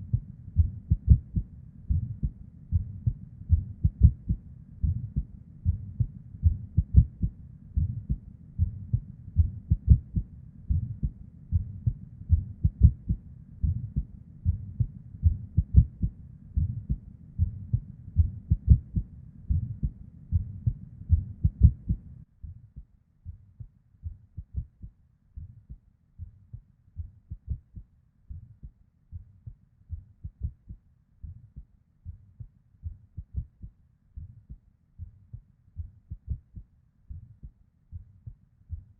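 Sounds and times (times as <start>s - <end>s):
background hum: 0.0s - 38.9s
heartbeat thumps: 0.0s - 38.9s.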